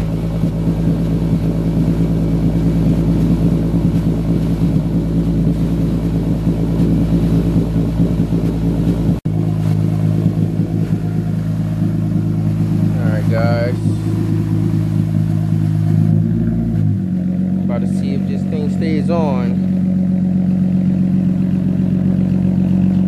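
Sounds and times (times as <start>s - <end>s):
car engine idling loudly: 0.0s - 23.0s.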